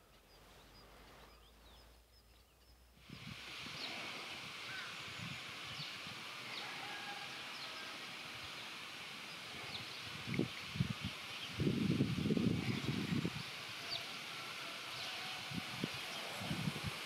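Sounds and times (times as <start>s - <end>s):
small birds chirping: 0.0s - 17.0s
steady high hiss: 0.0s - 17.0s.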